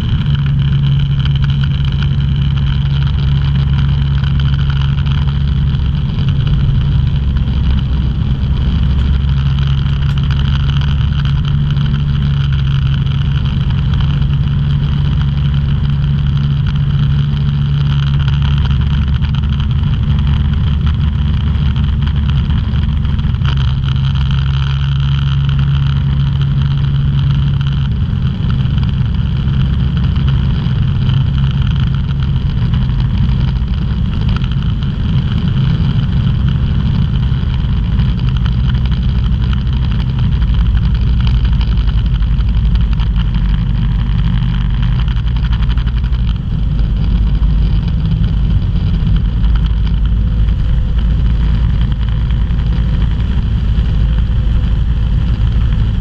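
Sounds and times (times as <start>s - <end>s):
ultralight aircraft engine droning: 0.0s - 56.0s.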